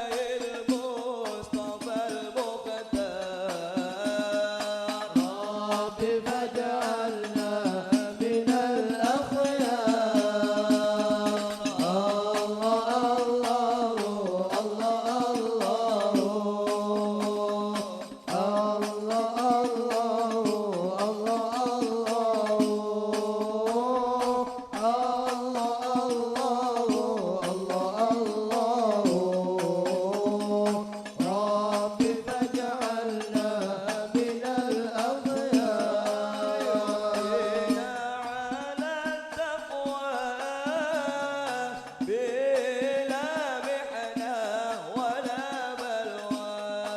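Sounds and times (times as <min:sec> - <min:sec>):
frame drum beats: 0:00.0 - 0:46.9
voices singing devotional song: 0:00.0 - 0:46.9.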